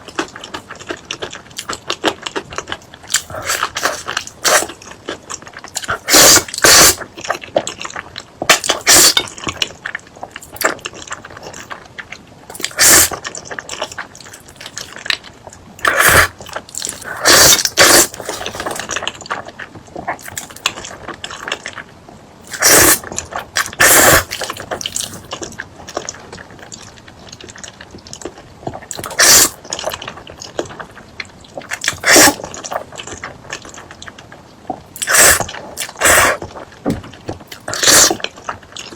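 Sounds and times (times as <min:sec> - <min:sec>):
wet chewing: 0:00.0 - 0:21.8, 0:22.4 - 0:38.9.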